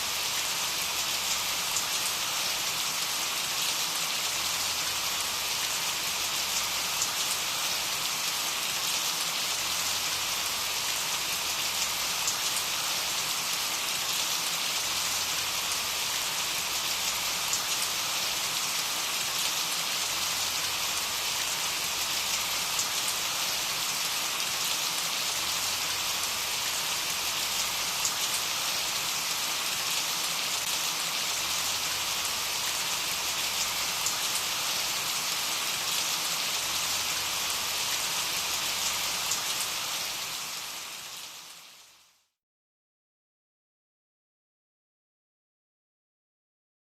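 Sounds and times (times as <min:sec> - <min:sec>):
steady rain falling: 0:00.0 - 0:42.1.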